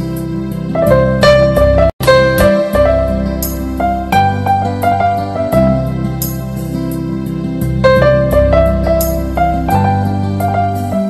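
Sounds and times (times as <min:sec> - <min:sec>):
soft slow instrumental music: 0:00.0 - 0:11.0.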